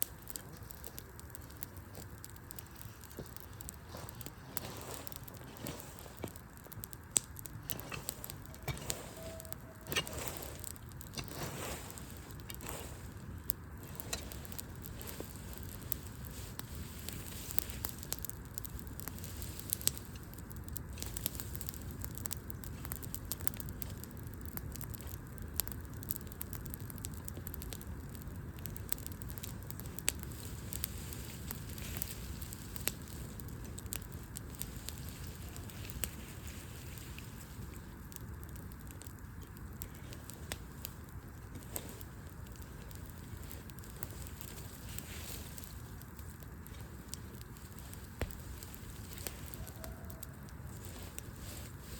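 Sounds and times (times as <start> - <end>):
low fire rumble: 0.0 - 51.9
wood fire crackling: 0.0 - 51.9.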